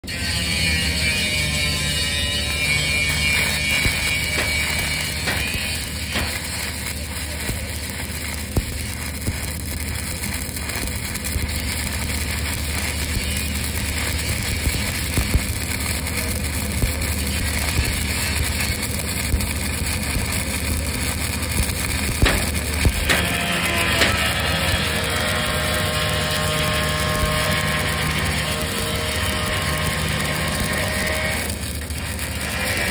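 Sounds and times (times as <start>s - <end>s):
welding arc crackling and popping: 0.0s - 32.9s.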